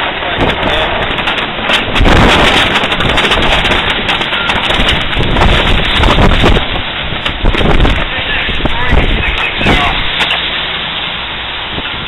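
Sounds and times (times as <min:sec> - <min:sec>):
wind gusting against microphone: 0:00.0 - 0:12.0.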